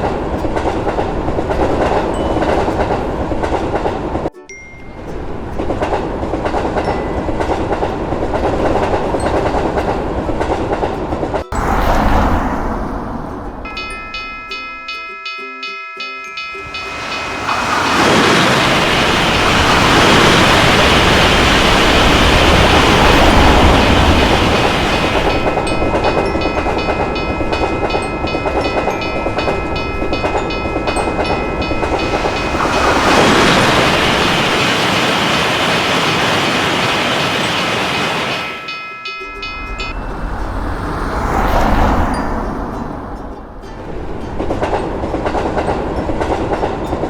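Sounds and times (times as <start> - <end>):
train wheels rumbling on rails: 0.0 - 4.3, 4.9 - 47.0
crossing bell ringing: 0.0 - 47.0.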